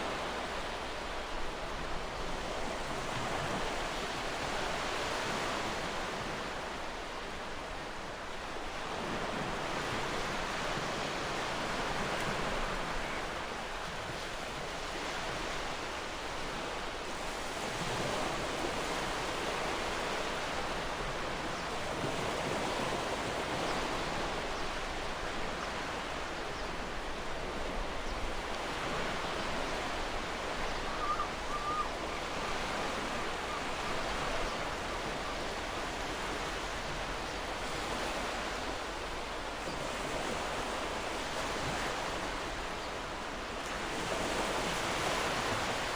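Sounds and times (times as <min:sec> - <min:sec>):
ocean waves washing on shore: 0:00.0 - 0:45.9.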